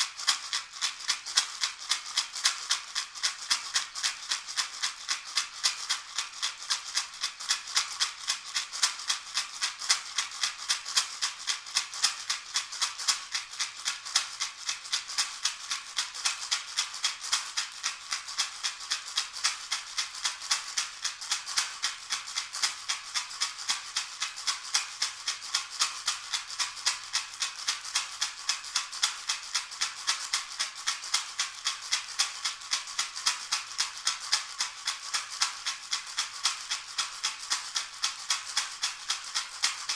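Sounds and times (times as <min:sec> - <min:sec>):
handheld shaker shaken: 0:00.0 - 0:39.9.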